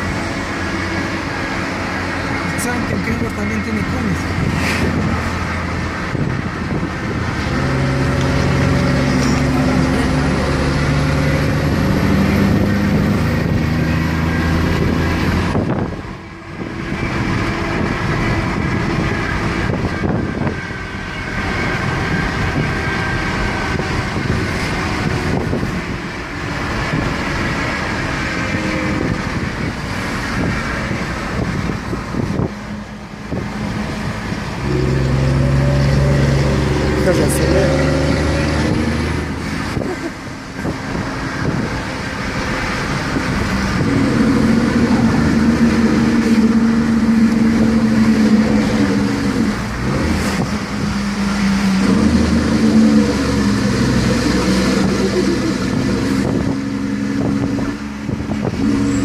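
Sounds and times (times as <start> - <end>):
bus diesel engine under load: 0.0 - 59.0.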